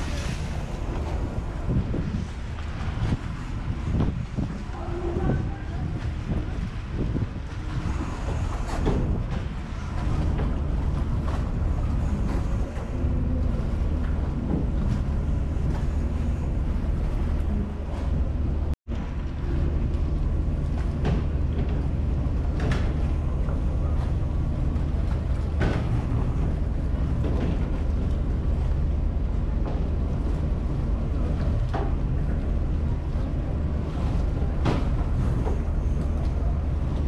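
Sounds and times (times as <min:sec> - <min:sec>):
constant rushing noise: 0:00.0 - 0:37.0
ferry engine drone: 0:00.0 - 0:37.0.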